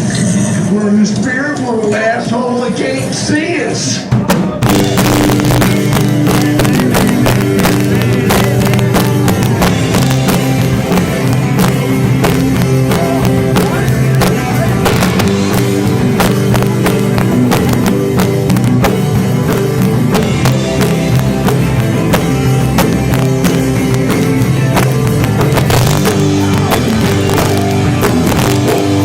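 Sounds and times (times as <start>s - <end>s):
low distorted guitar notes: 0.0s - 29.0s
drums striking: 3.9s - 29.0s.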